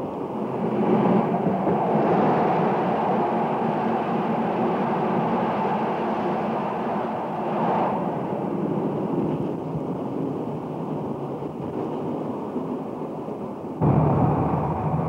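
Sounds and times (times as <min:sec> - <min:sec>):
trains passing at speed: 0:00.0 - 0:15.0.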